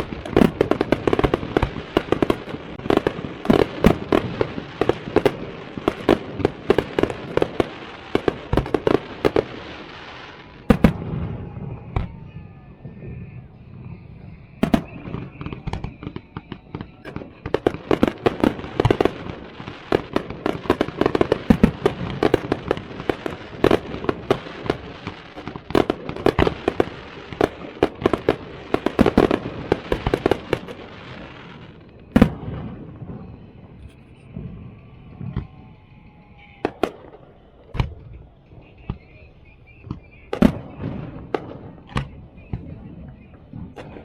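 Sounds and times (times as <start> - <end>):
fireworks bangs and crackling: 0.0 - 44.0.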